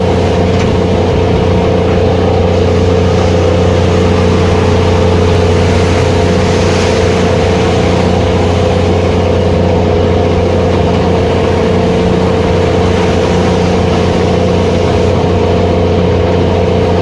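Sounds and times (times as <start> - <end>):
boat engine humming: 0.0 - 17.0
rough sea: 0.0 - 17.0
wind: 0.0 - 17.0.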